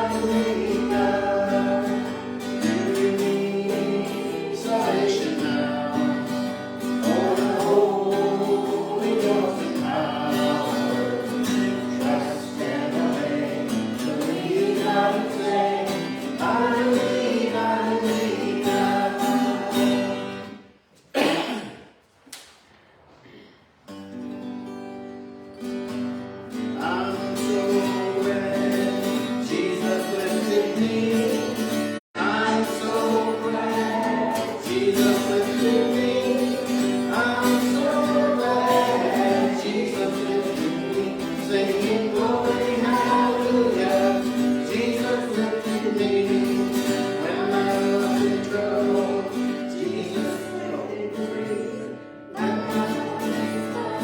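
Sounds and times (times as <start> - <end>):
voices singing gospel: 0.0 - 20.6, 26.6 - 54.0
guitar accompaniment: 0.0 - 21.7, 23.9 - 54.0.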